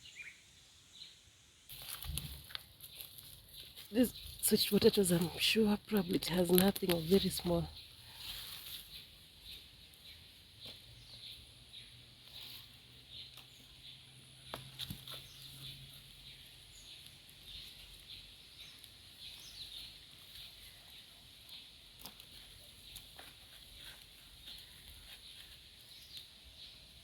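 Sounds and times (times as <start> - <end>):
birds chirping: 0.0 - 1.2, 2.2 - 27.0.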